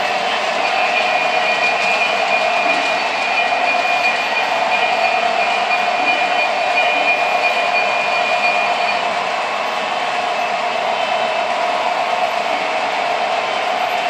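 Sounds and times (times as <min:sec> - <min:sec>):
model train motors and wheels: 0:00.0 - 0:14.0.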